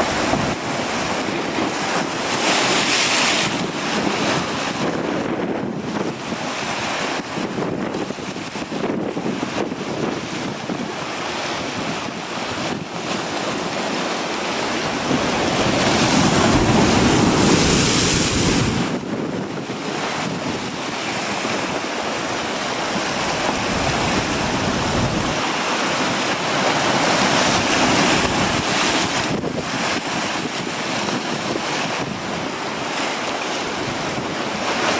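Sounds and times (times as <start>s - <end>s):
strong wind buffeting microphone: 0.0s - 33.0s, 33.6s - 34.9s
ocean surf rushing: 0.0s - 34.9s.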